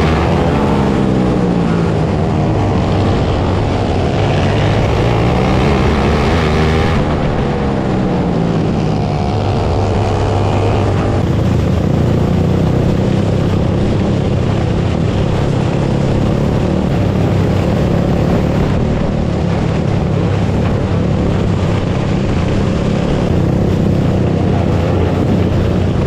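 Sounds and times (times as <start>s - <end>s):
dirt kart engine running hard: 0.0s - 26.0s.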